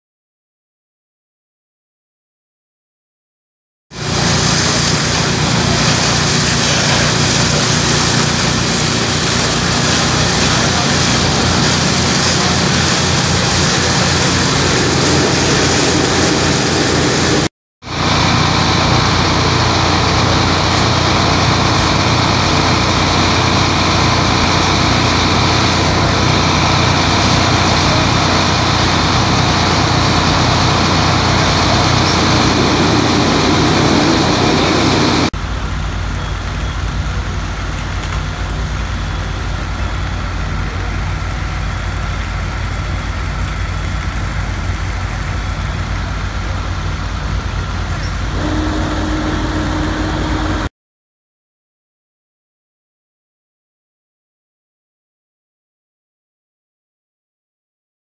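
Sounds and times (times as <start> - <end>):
diesel engines at high idle: 4.0 - 50.7.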